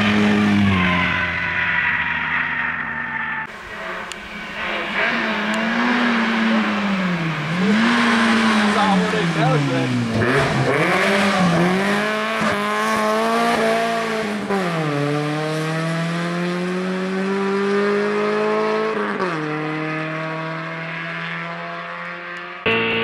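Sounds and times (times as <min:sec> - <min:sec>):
car engine revving at full throttle: 0:00.0 - 0:23.0.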